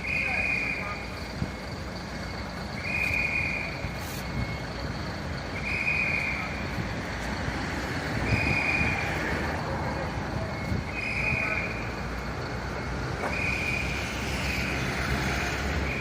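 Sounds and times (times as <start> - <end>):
engines running: 0.0 - 16.0
vehicle warning beeper: 0.0 - 16.0.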